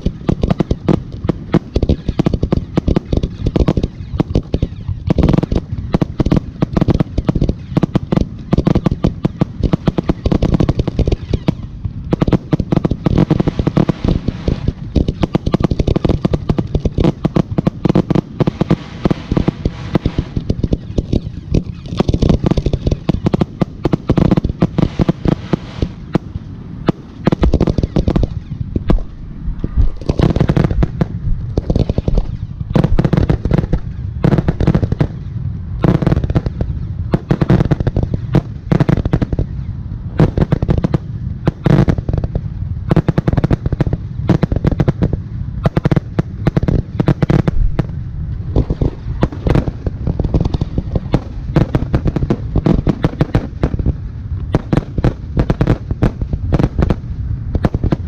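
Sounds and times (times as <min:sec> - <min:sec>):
firework shells bursting: 0:00.0 - 0:58.0.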